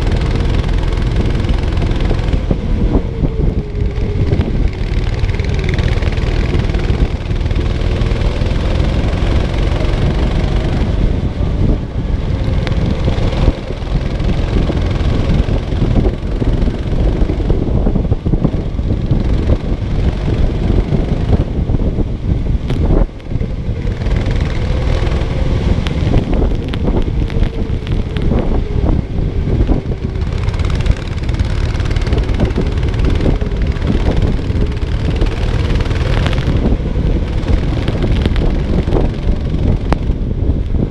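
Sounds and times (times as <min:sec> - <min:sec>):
go-kart engine: 0:00.0 - 0:40.9
wind buffeting microphone: 0:00.0 - 0:40.9.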